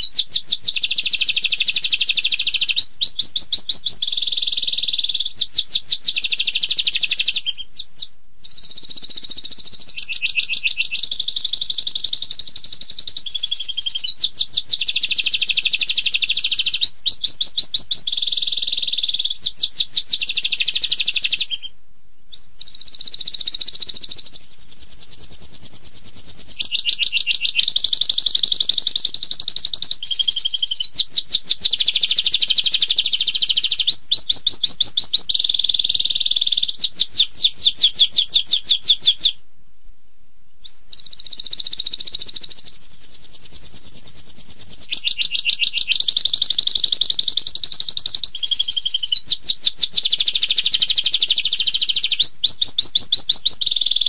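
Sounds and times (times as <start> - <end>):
canary singing trills: 0.0 - 39.4, 40.6 - 54.0.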